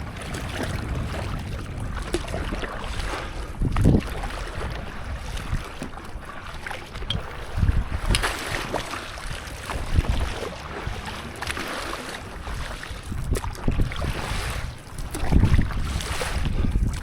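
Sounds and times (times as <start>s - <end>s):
water splashing and lapping: 0.0s - 17.0s
wind buffeting microphone: 0.0s - 17.0s.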